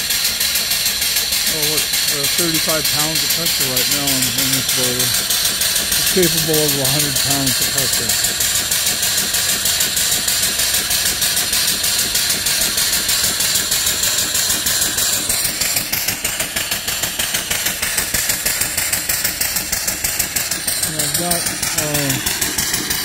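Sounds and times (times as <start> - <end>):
steam engine exhaust chuffs: 0.0 - 23.0
steam hissing: 0.0 - 23.0.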